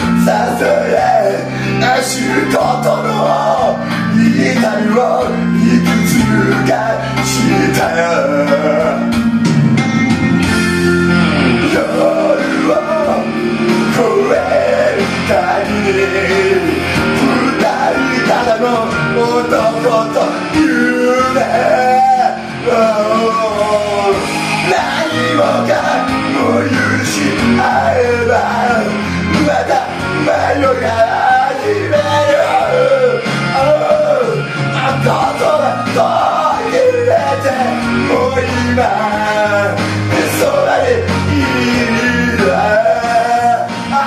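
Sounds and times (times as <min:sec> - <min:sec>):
man singing into a microphone: 0:00.0 - 0:09.2, 0:11.2 - 0:44.0
backing track with guitar: 0:00.0 - 0:44.0.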